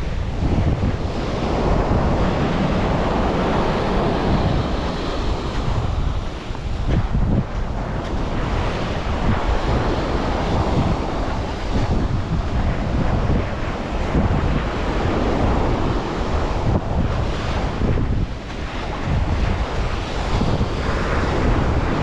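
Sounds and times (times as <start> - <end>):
sea surf washing onto beach: 0.0 - 22.0
wind buffeting microphone: 0.0 - 22.0.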